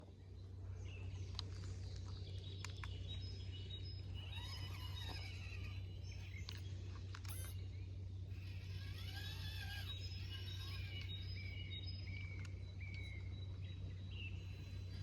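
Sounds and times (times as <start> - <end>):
steady low rumble: 0.0 - 15.0
birds chirping and calling: 0.6 - 15.0.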